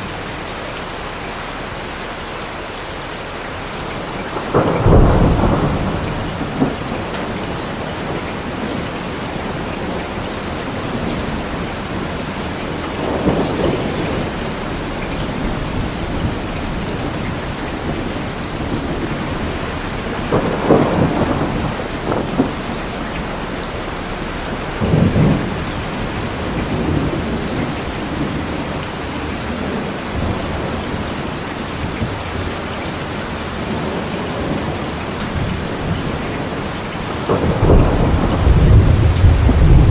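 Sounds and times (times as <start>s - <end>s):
heavy rain falling: 0.0s - 39.9s
thunder rumbling: 3.9s - 39.9s.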